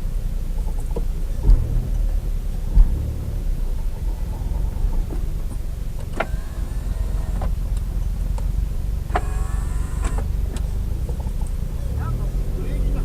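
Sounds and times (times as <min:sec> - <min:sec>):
road rumble inside car: 0:00.0 - 0:13.0.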